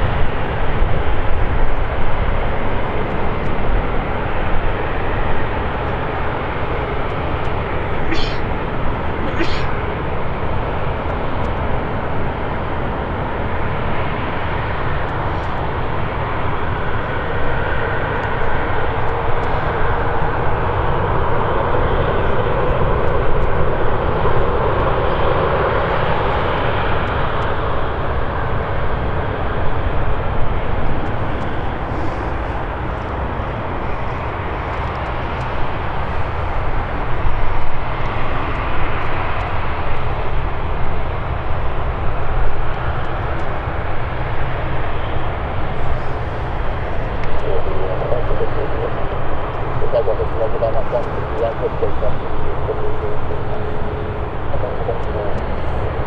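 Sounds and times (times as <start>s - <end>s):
constant low rumble: 0.0s - 56.0s
jet engines rushing: 0.0s - 56.0s.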